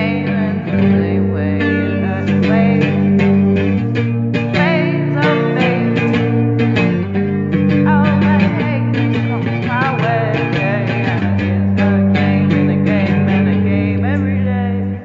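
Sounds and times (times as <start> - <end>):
psychedelic folk-rock music: 0.0 - 15.0.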